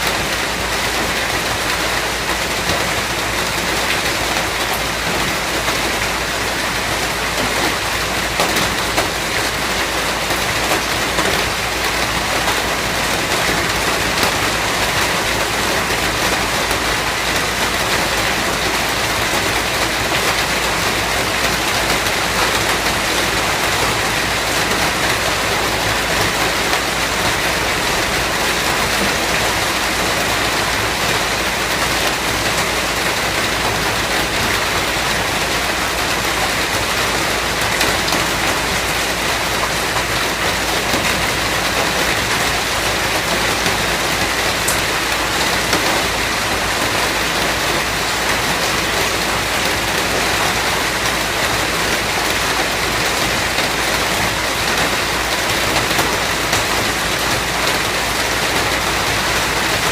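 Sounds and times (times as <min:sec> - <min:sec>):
heavy rain on a surface: 0:00.0 - 0:59.9.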